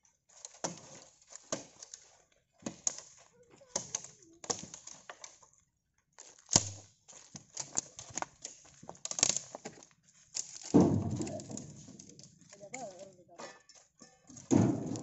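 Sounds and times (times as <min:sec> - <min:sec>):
dry branches crackling and snapping: 0:00.3 - 0:05.6, 0:06.2 - 0:13.2, 0:14.3 - 0:15.0.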